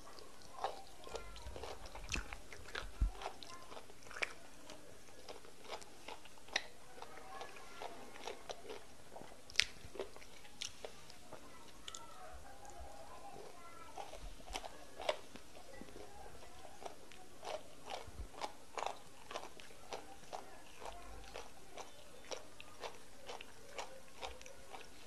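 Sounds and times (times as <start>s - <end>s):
wet chewing and lip smacks: 0.1s - 11.2s, 14.0s - 25.0s.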